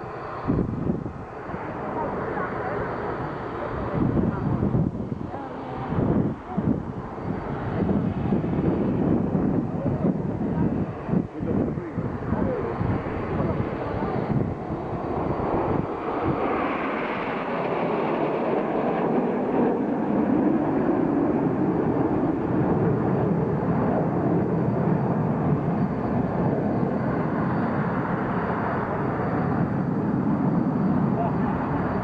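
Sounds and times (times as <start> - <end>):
jet aircraft passing overhead: 0.0 - 32.0.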